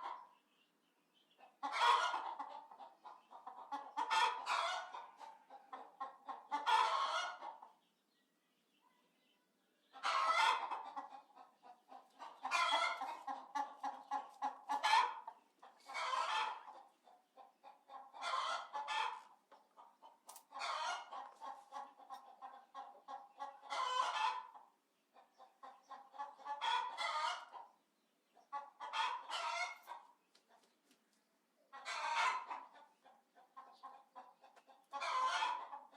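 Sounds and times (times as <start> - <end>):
chickens clucking: 0.0 - 0.6, 1.2 - 8.0, 9.8 - 35.9.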